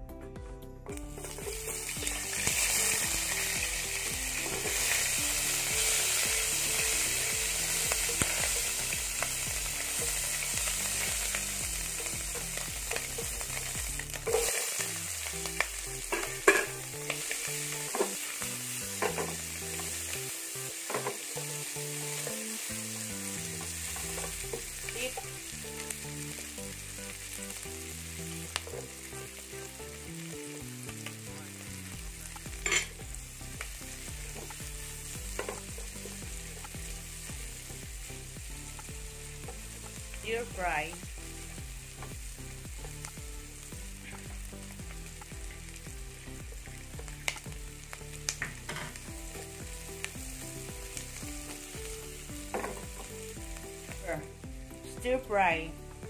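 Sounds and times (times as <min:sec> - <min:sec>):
oil sizzling in frying pan: 0:00.9 - 0:56.0.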